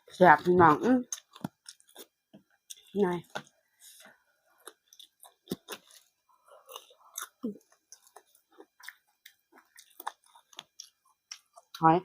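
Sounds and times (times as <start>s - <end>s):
person chewing: 0.3s - 11.8s.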